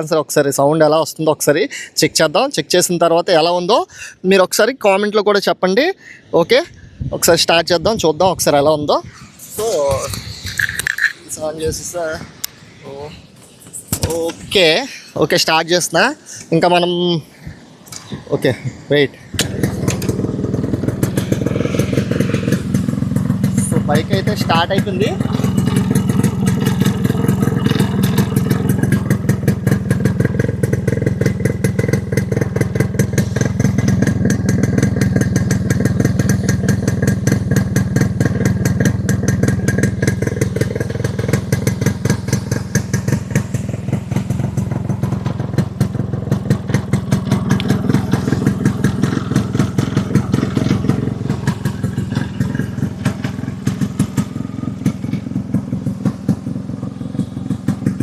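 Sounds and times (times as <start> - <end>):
two-stroke motorcycle engine running: 7.8 - 16.5, 17.4 - 58.0.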